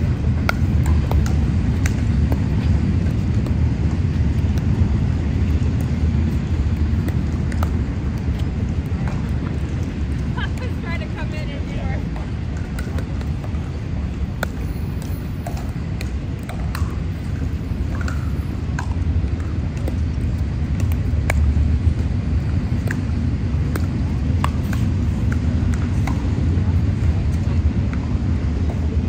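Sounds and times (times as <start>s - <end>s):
steady low rumble: 0.0s - 29.0s
paddles hitting plastic ball: 0.2s - 11.2s, 12.0s - 28.9s.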